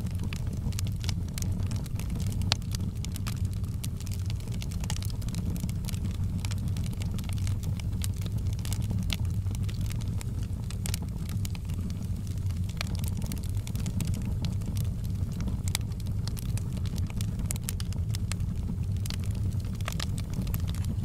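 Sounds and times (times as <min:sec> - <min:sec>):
burning wood crackling and popping: 0:00.0 - 0:21.0
fire flames rumbling: 0:00.0 - 0:21.0.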